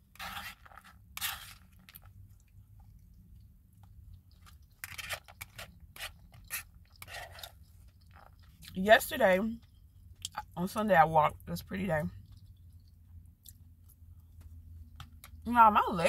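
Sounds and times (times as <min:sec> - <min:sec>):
person chewing food: 0:00.0 - 0:08.8, 0:09.6 - 0:10.6, 0:12.2 - 0:15.4.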